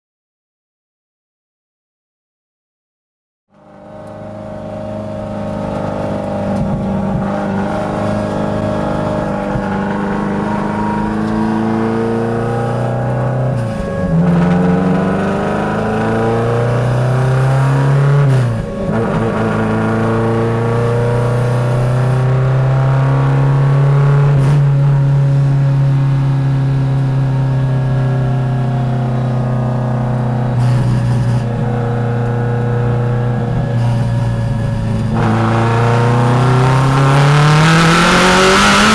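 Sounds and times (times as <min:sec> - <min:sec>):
race car engine accelerating: 0:03.5 - 0:38.9.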